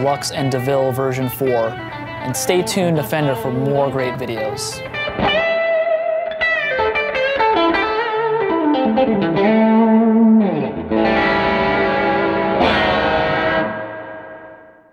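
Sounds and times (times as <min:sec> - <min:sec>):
electric guitar notes and chords: 0:00.0 - 0:14.9.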